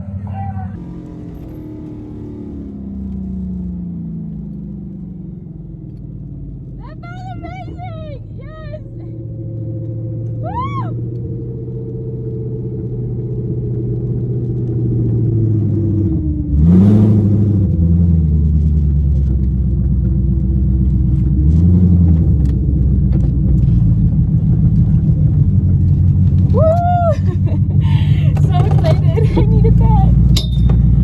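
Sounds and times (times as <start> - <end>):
car engine rumbling and revving: 0.0 - 31.0.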